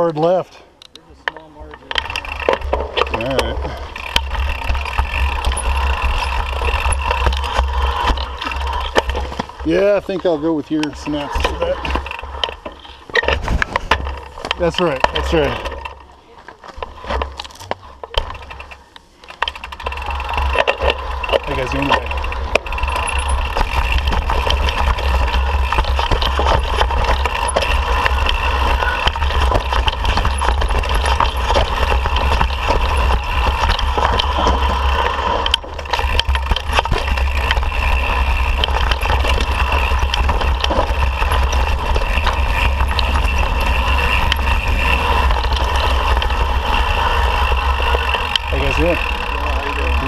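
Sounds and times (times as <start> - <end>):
steady whir: 0.8 - 50.0
bike rattling over rocks: 1.1 - 50.0
tyres crunching on dirt: 1.1 - 50.0.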